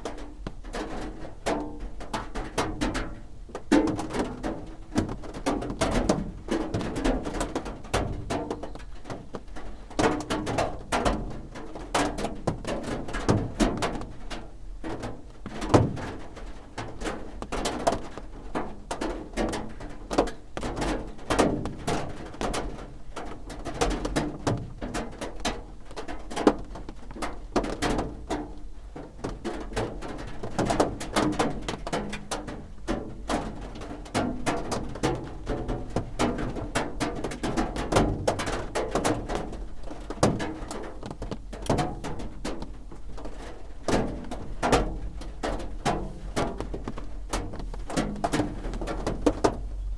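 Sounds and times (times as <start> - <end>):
raindrops drumming on roof: 0.0 - 49.9.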